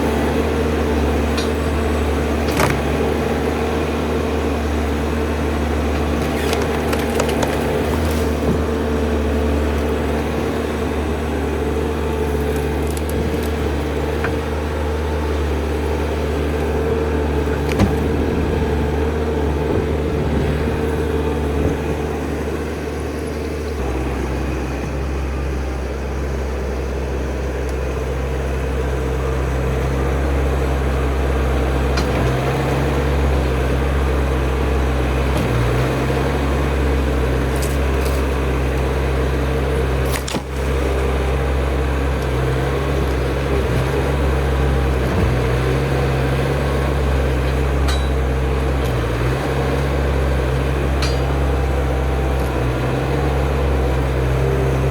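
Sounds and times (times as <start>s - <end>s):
skid steer engine running: 0.0s - 54.9s.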